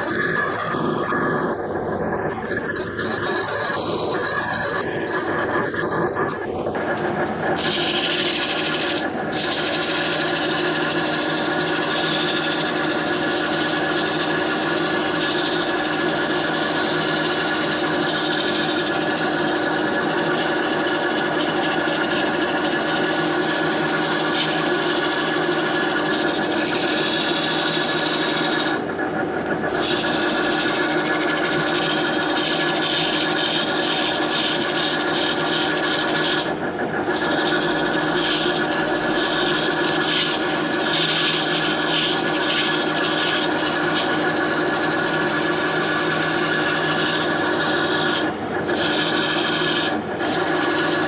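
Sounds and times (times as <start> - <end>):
lathe humming: 0.0 - 51.0
tool scraping spinning wood: 0.0 - 51.0.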